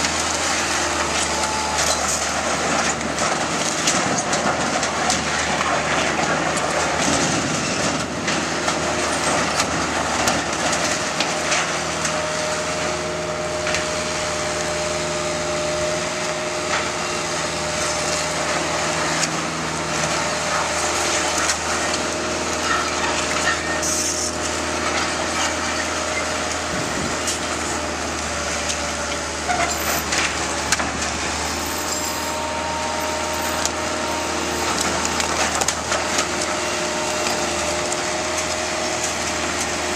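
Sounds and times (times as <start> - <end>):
wood cracking and splintering: 0.0 - 13.9, 17.7 - 32.0, 33.4 - 39.9
diesel engine under load: 0.0 - 39.9.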